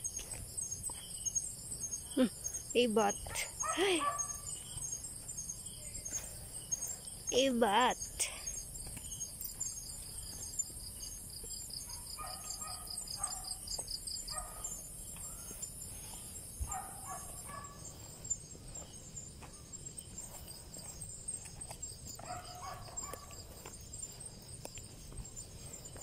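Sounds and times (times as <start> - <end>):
crickets chirping: 0.0 - 26.0
footsteps on dirt trail: 0.0 - 26.0.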